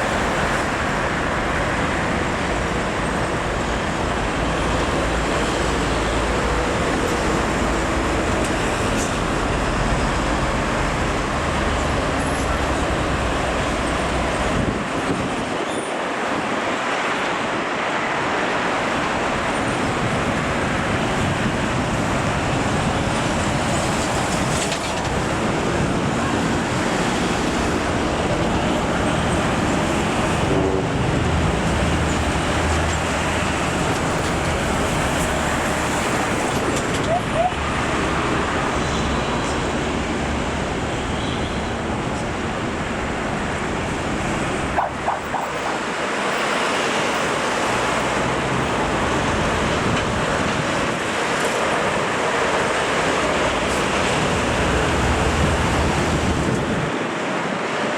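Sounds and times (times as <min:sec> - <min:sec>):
trucks and vehicles passing: 0:00.0 - 0:57.9.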